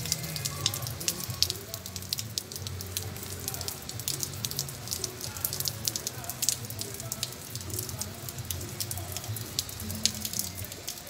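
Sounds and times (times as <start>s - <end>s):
raindrops tapping: 0.0s - 11.0s.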